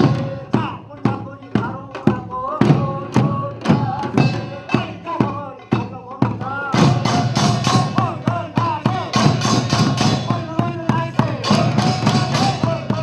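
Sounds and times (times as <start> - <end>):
percussion band music: 0.0 - 13.0.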